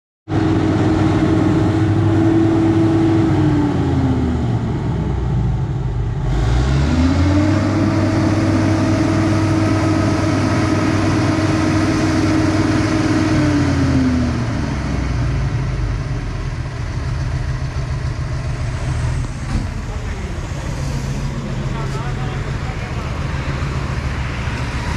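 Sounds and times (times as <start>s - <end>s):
truck diesel engine revving: 0.3s - 24.9s.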